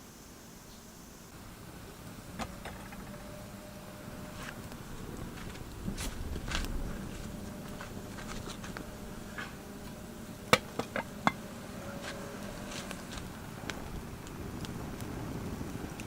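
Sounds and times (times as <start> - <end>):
low steady background hum: 0.0 - 16.0.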